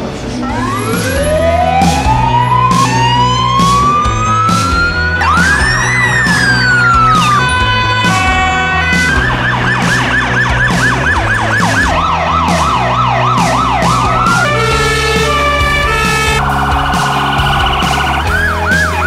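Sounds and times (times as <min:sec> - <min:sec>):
emergency vehicle sirens: 0:00.0 - 0:19.0.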